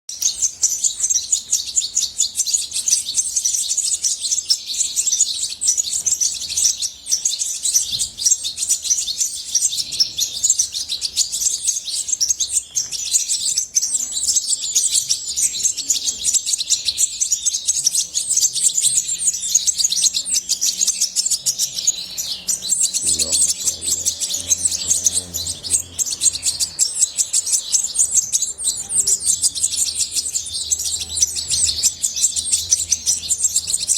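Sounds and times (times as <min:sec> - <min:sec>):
goldfinch twittering song: 0:00.1 - 0:33.9.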